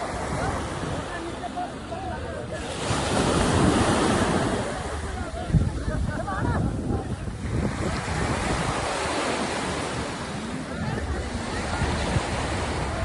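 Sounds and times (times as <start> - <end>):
sea waves washing in: 0.0 - 13.0
wind buffeting microphone: 0.0 - 13.0.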